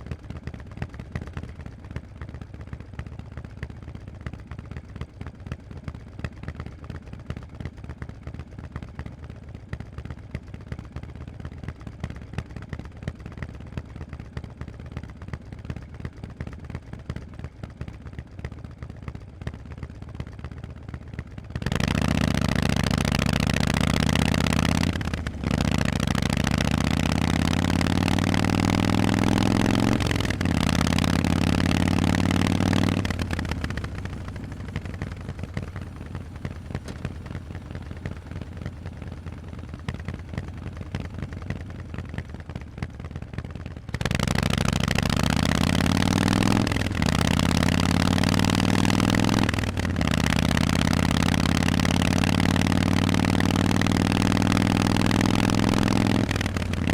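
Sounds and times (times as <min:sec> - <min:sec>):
motorcycle engine idling and accelerating: 0:00.0 - 0:56.9.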